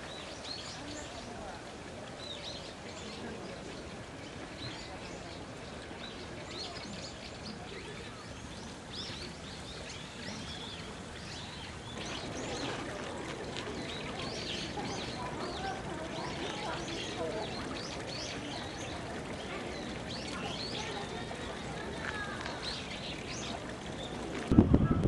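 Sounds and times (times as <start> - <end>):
small birds chirping: 0.0 - 24.5
outdoor background noise: 0.0 - 25.0.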